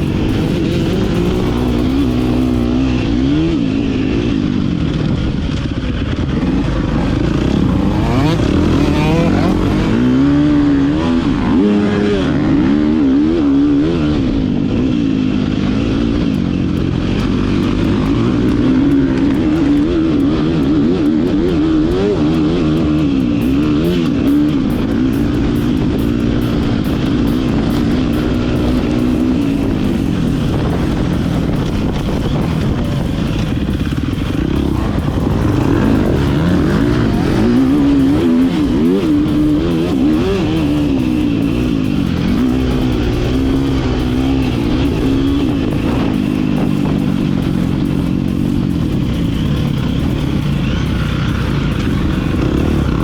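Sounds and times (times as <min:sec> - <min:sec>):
motocross bike engine revving: 0:00.0 - 0:53.0.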